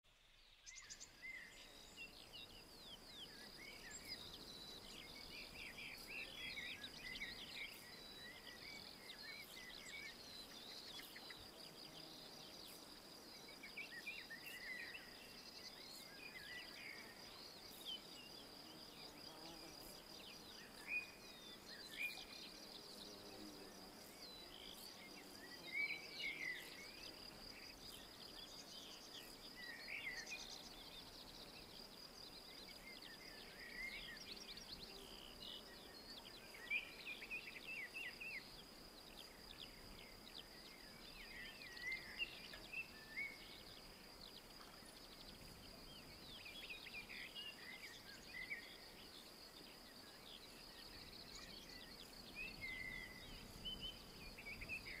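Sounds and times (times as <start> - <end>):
songbirds singing and chirping: 0.1 - 55.0.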